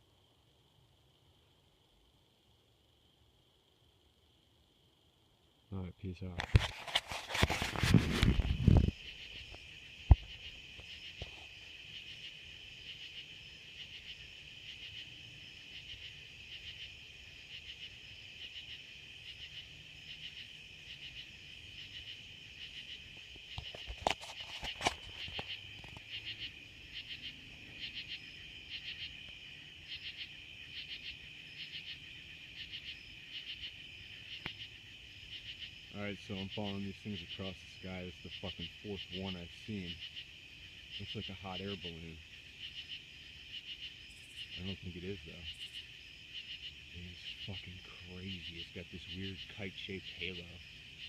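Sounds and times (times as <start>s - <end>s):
night insects chirping: 0.0s - 51.0s.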